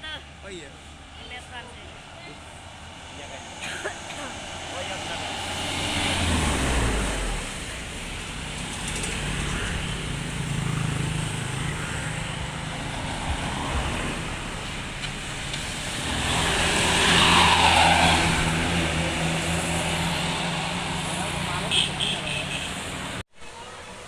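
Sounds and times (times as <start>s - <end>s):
vehicle engine humming: 0.0s - 24.0s
vehicle passing close: 2.0s - 23.2s.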